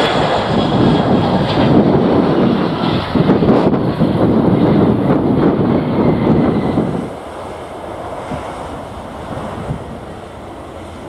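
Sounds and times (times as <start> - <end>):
jet engines running loud: 0.0 - 11.0
wind buffeting microphone: 0.0 - 11.0.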